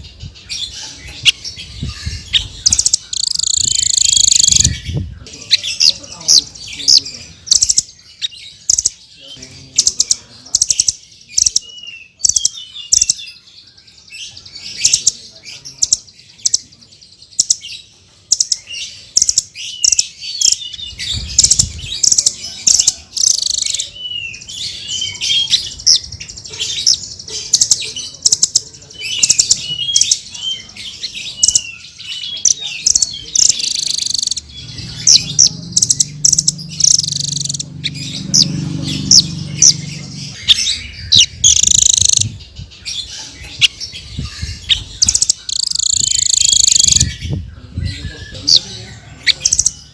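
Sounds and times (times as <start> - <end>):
parrot chirping: 0.0 - 4.8, 5.4 - 9.0, 9.8 - 13.4, 17.4 - 47.2.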